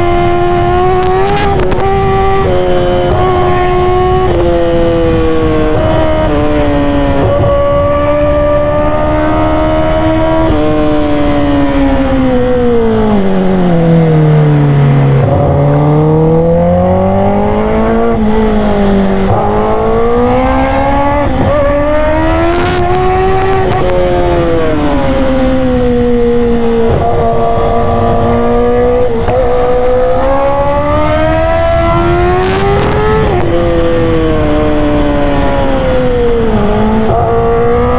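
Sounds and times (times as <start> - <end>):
motorcycle engine while riding: 0.0 - 37.9.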